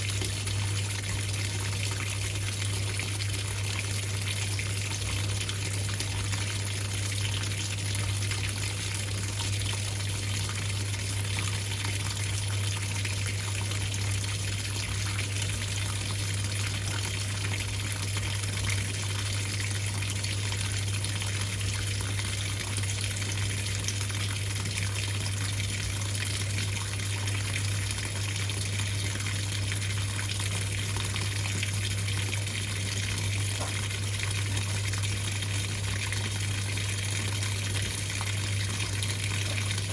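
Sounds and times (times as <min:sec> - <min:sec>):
washing machine low hum: 0:00.0 - 0:39.9
water gushing in washing machine: 0:00.0 - 0:39.9.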